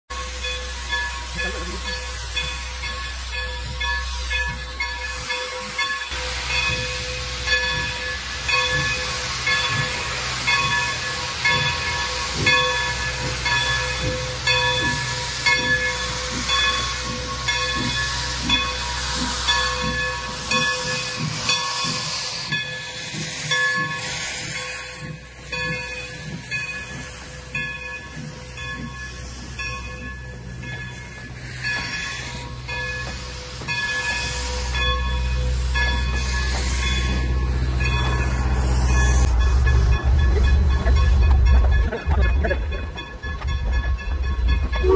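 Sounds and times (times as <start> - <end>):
locomotive bell ringing: 0.1 - 44.9
steam locomotive hissing steam: 0.1 - 44.9.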